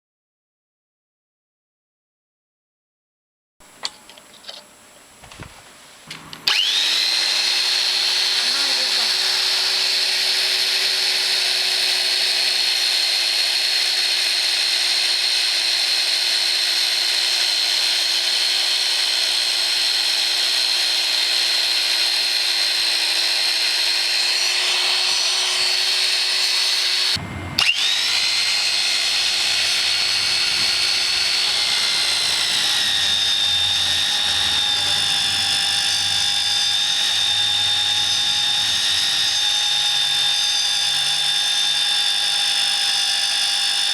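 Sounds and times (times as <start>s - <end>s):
drill press motor whining: 5.4s - 43.9s.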